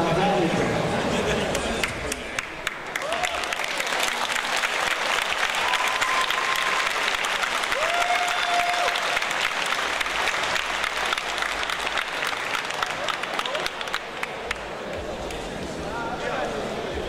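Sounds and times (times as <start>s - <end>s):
crowd applauding and cheering: 1.5s - 16.0s.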